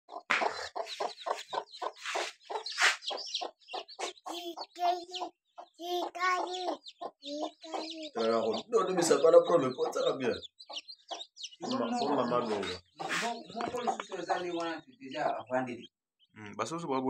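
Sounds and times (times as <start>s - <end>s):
chickens clucking: 0.1s - 16.8s.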